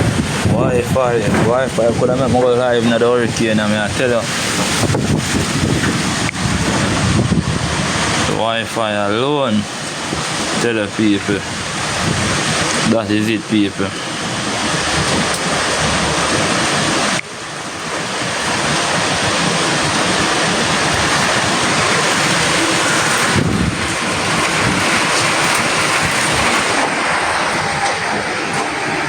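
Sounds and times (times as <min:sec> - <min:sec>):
strong wind buffeting microphone: 0:00.0 - 0:29.0.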